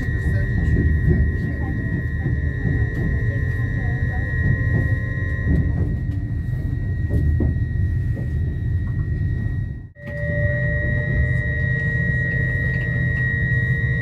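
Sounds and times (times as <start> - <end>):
constant high whine: 0.0 - 14.0
steady tone: 0.0 - 14.0
train low rumble: 0.0 - 14.0.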